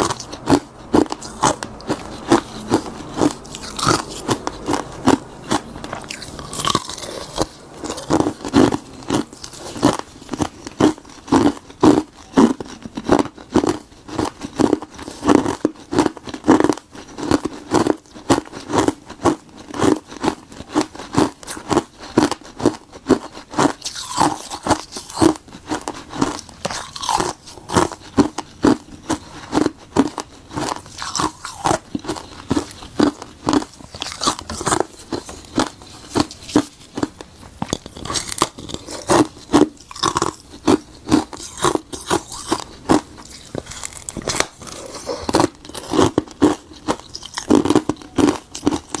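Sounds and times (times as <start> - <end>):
ice being chewed: 0.0 - 49.0.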